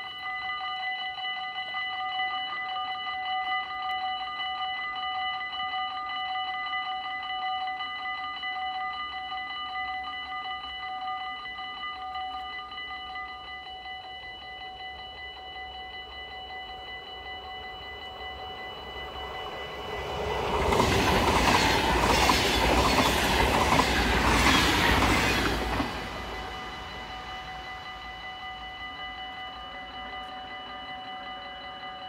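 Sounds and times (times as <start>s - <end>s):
level crossing warning bells: 0.0s - 32.0s.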